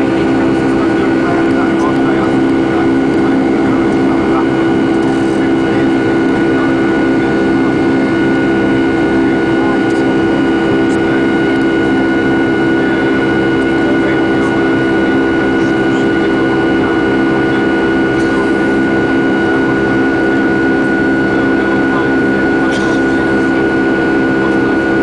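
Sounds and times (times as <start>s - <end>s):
high engine whine: 0.0s - 25.0s
jet engine drone in cabin: 0.0s - 25.0s.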